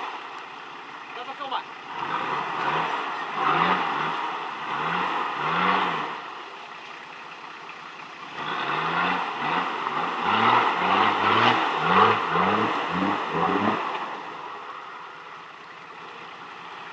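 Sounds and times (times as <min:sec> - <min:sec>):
diesel engine revving: 0:00.0 - 0:06.5, 0:08.0 - 0:16.9.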